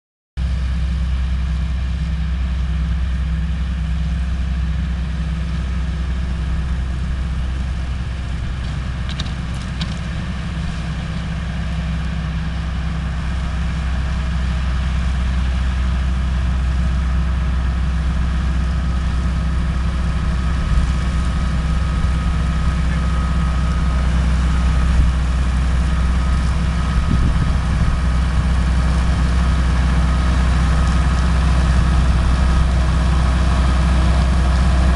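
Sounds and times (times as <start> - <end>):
tractor diesel engine droning: 0.4 - 34.9.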